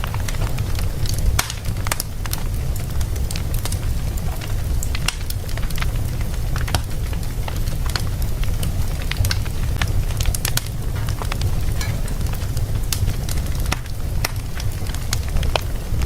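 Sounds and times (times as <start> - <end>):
low rumble of burning fire: 0.0 - 16.0
sharp pops of fire: 0.0 - 16.0
wood fire crackling: 0.0 - 16.0.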